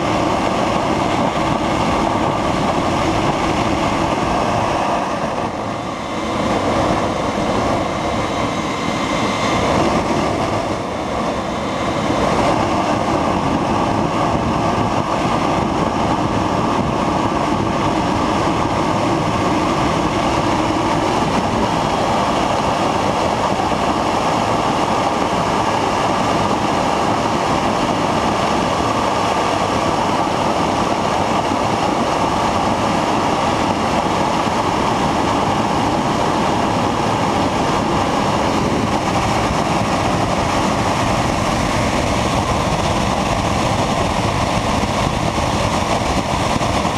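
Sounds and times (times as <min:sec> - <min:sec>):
jet engine running loudly: 0:00.0 - 0:46.9.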